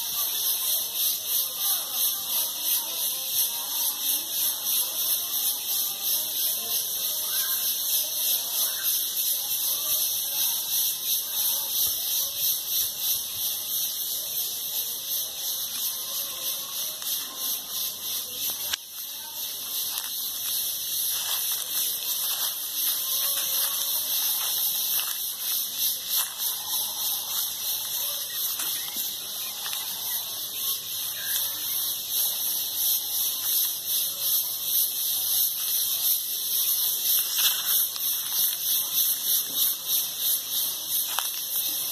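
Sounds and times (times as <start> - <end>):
pulsing high-pitched hiss: 0.0 - 41.9.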